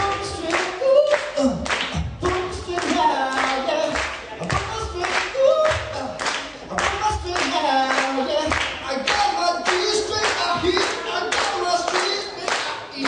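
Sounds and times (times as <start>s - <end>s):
audience clapping along: 0.0s - 13.0s
person singing: 0.0s - 13.0s.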